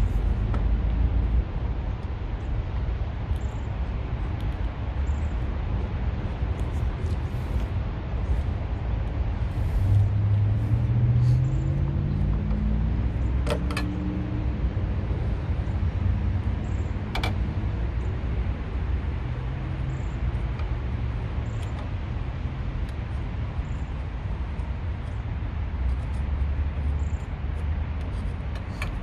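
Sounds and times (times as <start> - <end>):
highway traffic rumble: 0.0 - 29.0.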